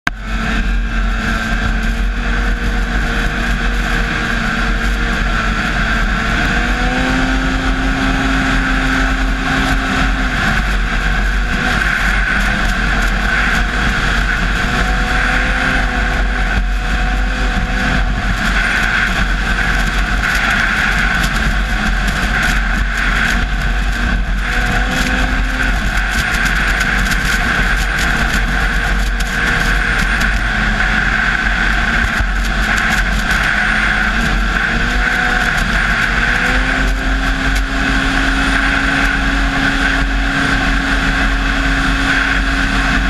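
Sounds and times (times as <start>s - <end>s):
snowmobile engine cruising: 0.1s - 43.0s.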